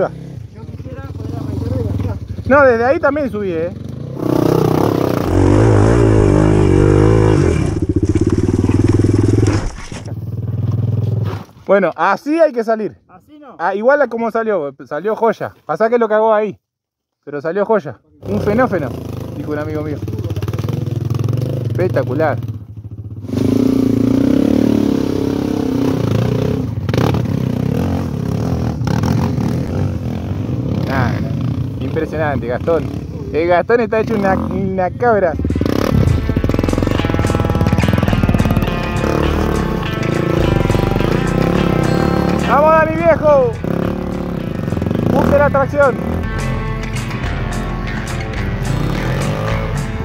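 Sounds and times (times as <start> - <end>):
motorcycle engine revving: 0.0 - 11.5, 18.2 - 50.0.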